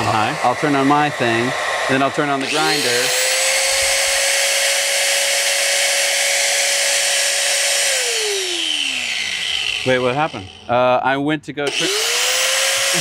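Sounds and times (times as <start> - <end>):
rushing air with motor whine: 0.0 - 10.8
motors spinning down: 0.0 - 11.0, 11.6 - 13.0.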